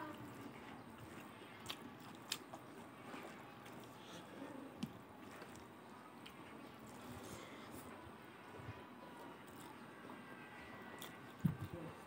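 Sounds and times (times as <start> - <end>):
chewing food: 0.0 - 8.0, 9.2 - 12.0.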